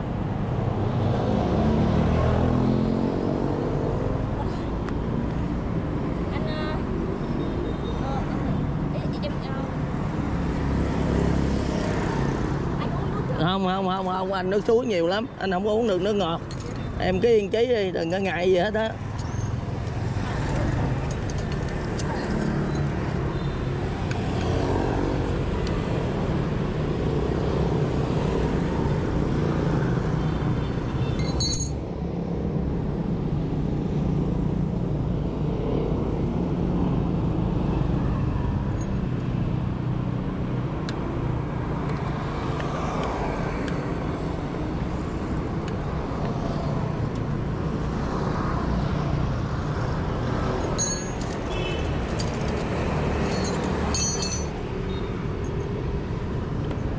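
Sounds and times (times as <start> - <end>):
motorbike engines in traffic: 0.0 - 56.9.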